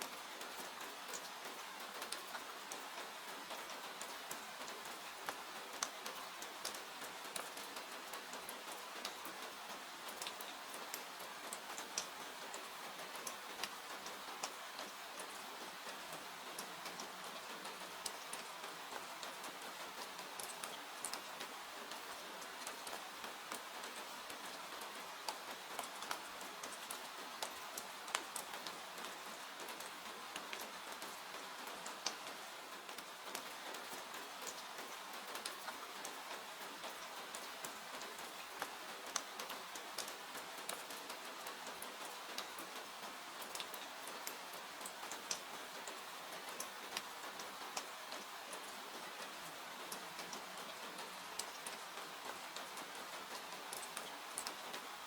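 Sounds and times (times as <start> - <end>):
rain hiss: 0.0 - 55.0.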